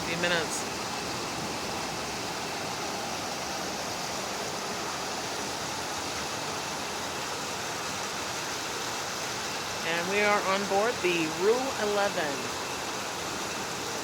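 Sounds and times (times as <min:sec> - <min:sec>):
heavy rain on a tin roof: 0:00.0 - 0:14.0.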